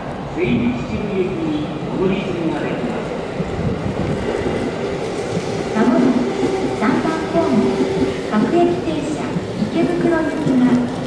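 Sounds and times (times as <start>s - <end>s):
rumble of train cars: 0.0s - 11.0s.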